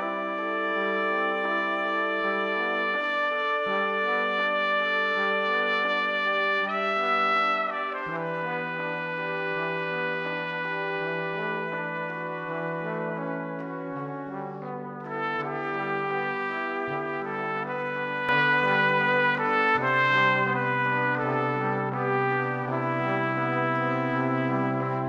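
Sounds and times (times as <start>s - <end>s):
brass ensemble sustained chords: 0.0s - 25.0s.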